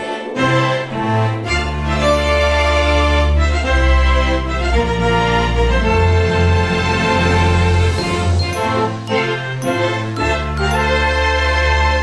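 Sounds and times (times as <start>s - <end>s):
held string chords: 0.2s - 12.0s.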